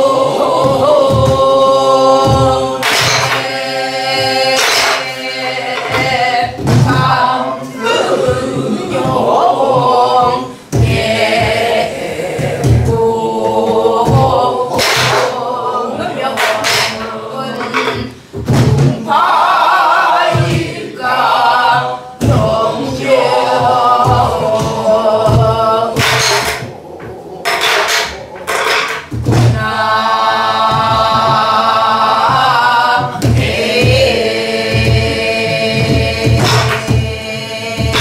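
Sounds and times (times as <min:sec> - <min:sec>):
drum strokes: 0:00.0 - 0:38.0
group singing folk song: 0:00.0 - 0:38.0.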